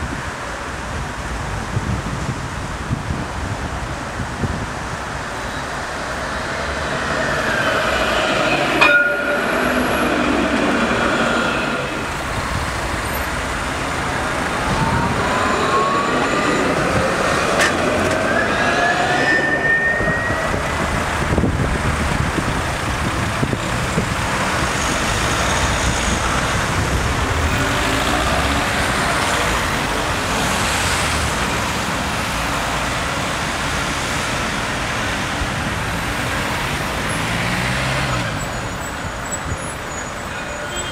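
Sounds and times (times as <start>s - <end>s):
steel wheels rumbling on rail: 0.9s - 40.9s
tram electric drive whining: 3.6s - 40.9s.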